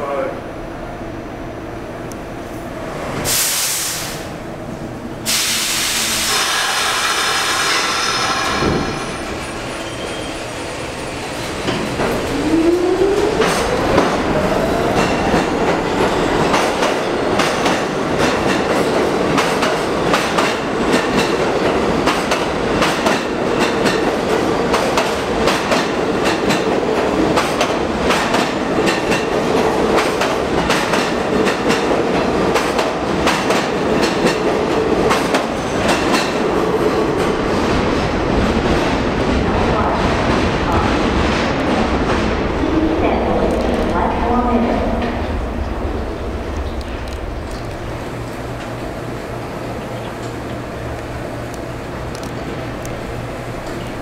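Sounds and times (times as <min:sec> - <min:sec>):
subway train motors whining: 0:00.0 - 0:54.0.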